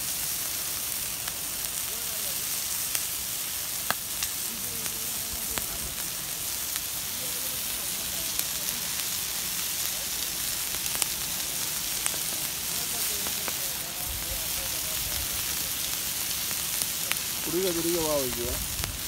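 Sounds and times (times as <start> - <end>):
crab sizzling on grill: 0.0 - 19.0
fire crackles and pops: 0.0 - 19.0.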